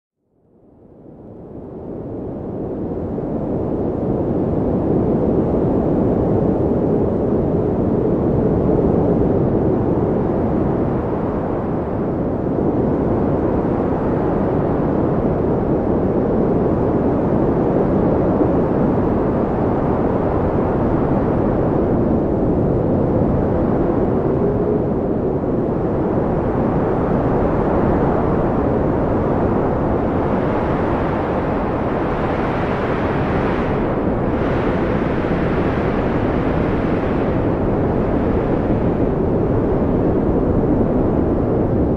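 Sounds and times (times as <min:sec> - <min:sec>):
faint wavering wind howl: 0:00.3 - 0:41.9
strong wind rushing: 0:01.0 - 0:41.9.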